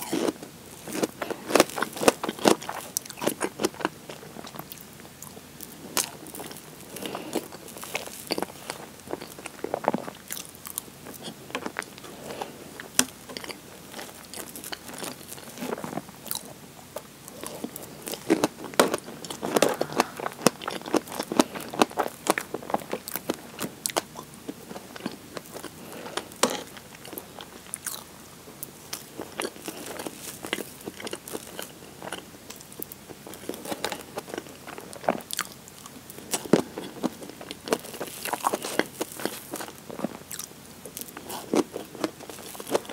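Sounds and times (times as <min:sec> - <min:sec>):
wet chewing mouth sounds: 0:00.0 - 0:28.1, 0:28.9 - 0:42.9.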